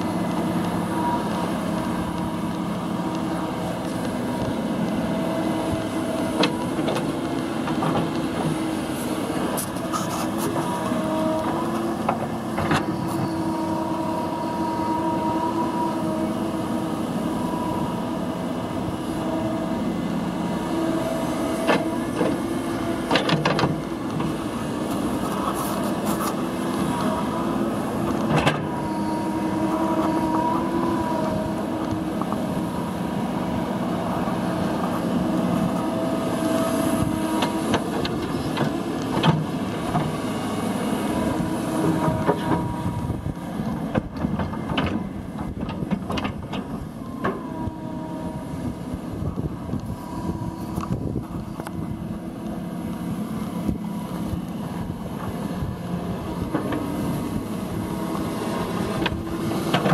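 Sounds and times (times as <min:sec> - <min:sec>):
excavator engine running: 0:00.0 - 0:59.9
hydraulic whine: 0:00.0 - 0:59.9.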